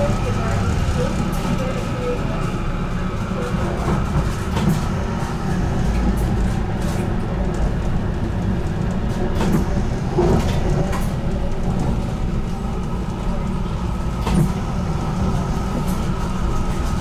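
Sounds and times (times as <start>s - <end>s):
tram rumbling on tracks: 0.0s - 17.0s.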